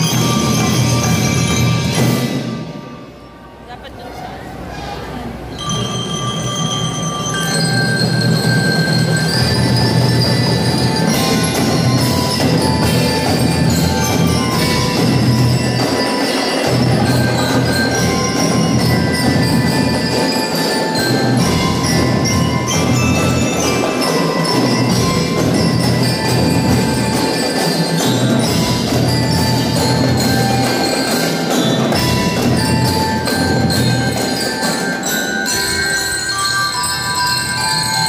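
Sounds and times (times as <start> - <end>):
drums beating: 0.0 - 3.2, 5.3 - 38.0
bell lyres ringing a melody: 0.0 - 3.8, 5.4 - 38.0.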